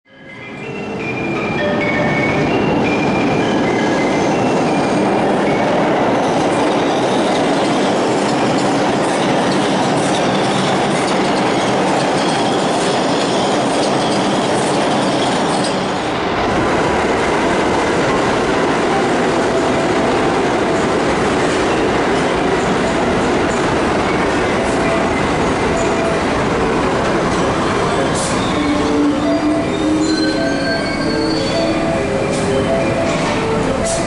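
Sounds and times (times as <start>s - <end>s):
subway train rumbling and rattling: 0.1s - 34.0s.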